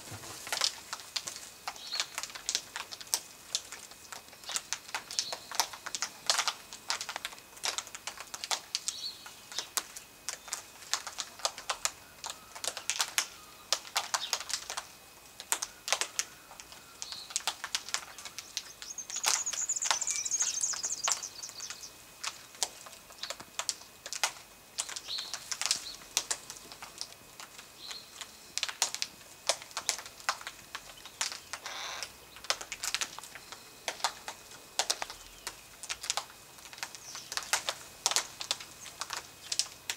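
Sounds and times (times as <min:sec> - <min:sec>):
beaks cracking seed pods: 0:00.4 - 0:39.9.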